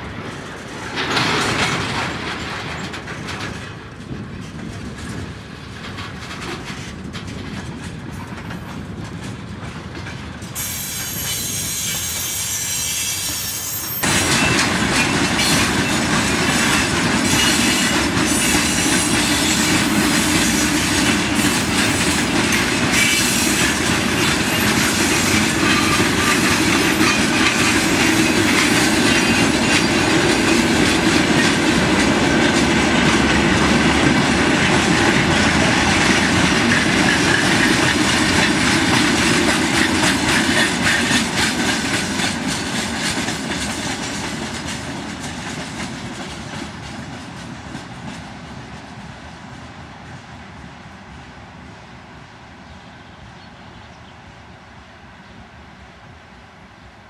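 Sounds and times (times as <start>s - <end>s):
wheels clattering over rail joints: 0.0s - 12.2s, 14.0s - 48.3s.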